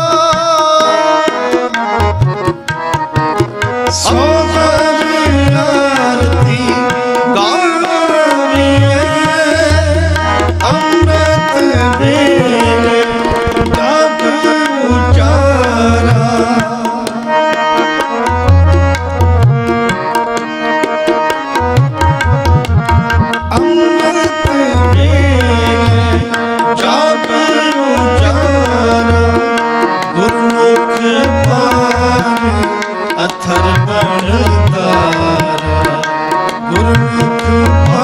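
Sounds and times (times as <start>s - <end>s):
harmonium chords and melody: 0.0s - 38.0s
tabla playing: 0.0s - 38.0s.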